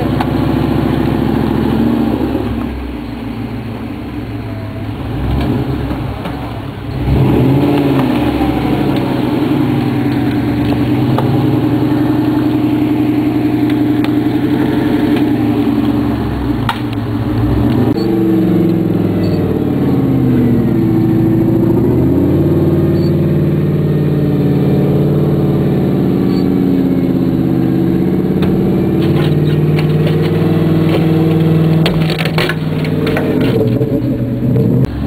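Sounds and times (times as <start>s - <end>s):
truck churning through mud: 0.0s - 35.0s
engine revving hard: 6.9s - 35.0s.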